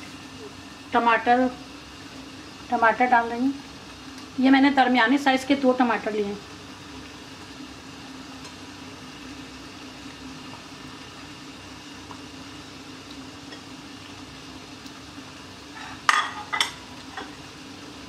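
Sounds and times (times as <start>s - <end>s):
pot simmering hiss: 0.0s - 18.0s.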